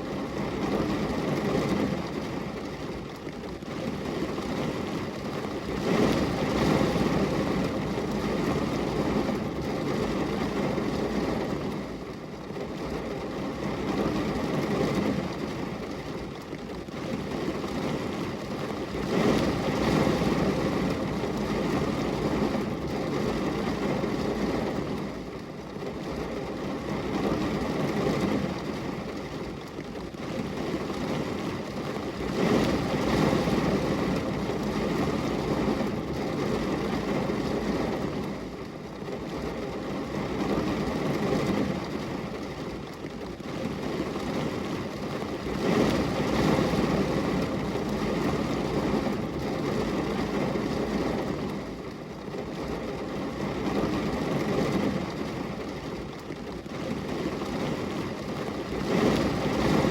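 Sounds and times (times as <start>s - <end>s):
steady rain rushing: 0.0s - 59.9s.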